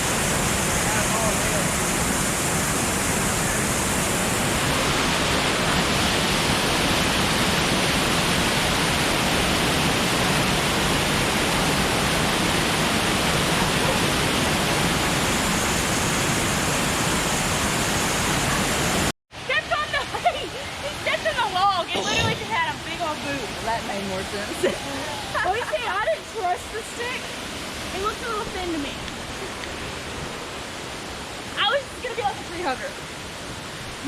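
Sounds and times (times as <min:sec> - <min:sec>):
small waterfall rushing: 0:00.0 - 0:34.0.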